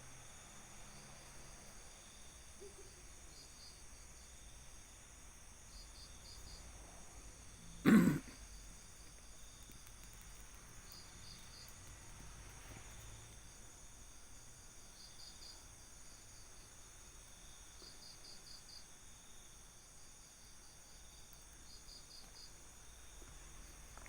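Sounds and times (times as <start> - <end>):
crickets chirping: 0.0 - 24.0
high insect drone: 0.0 - 24.0.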